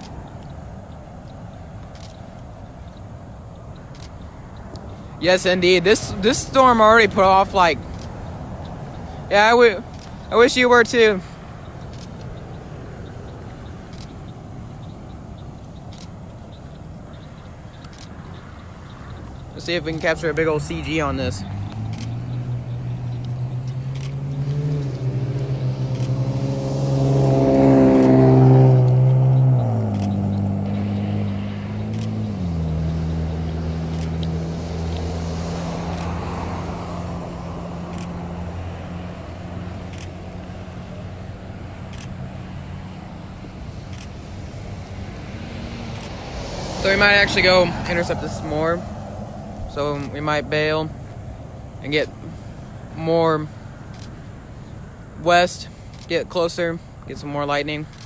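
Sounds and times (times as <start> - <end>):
road vehicles rumbling: 0.0 - 58.0.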